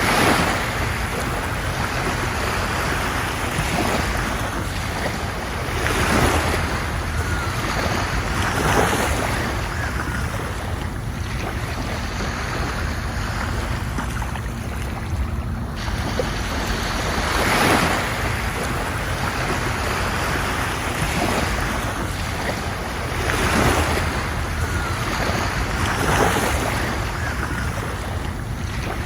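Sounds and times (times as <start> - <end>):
low rumble: 0.0 - 29.0
ocean waves breaking on shore: 0.0 - 29.0.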